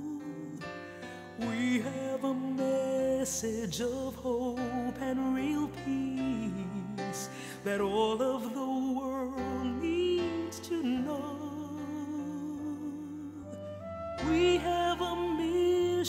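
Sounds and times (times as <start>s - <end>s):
slow worship song: 0.0s - 16.0s.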